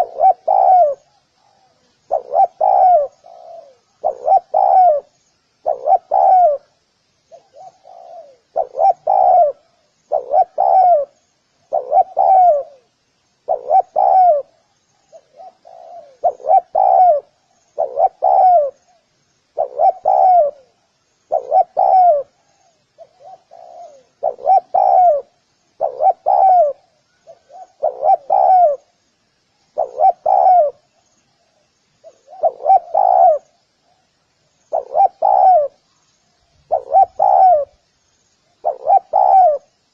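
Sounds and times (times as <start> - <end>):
dove cooing: 0.0 - 29.0, 29.8 - 31.0, 32.0 - 34.1, 34.7 - 35.8, 36.6 - 37.9, 38.6 - 39.8.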